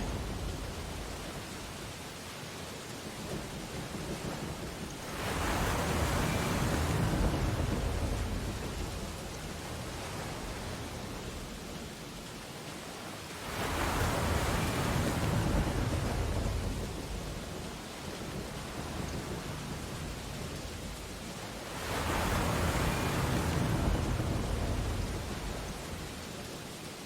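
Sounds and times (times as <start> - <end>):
ocean waves breaking: 0.0 - 27.0.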